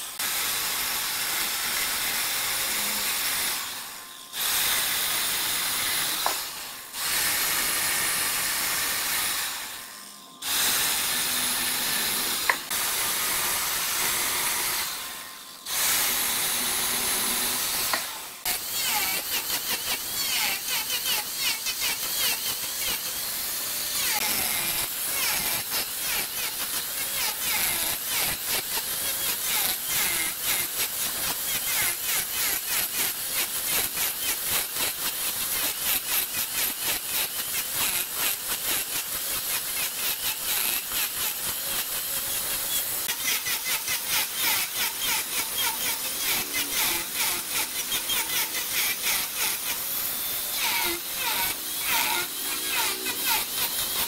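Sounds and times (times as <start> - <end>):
wood lathe cutting: 0.0 - 54.0.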